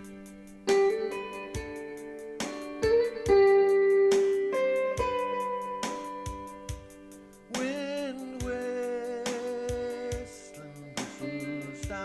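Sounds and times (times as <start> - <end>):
slow guitar notes: 0.0 - 12.0.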